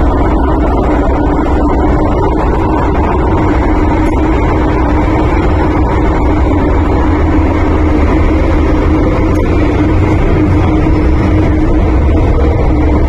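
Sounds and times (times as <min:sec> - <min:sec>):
constant hum: 0:00.0 - 0:13.0
train wheels rumbling in tunnel: 0:00.0 - 0:13.0.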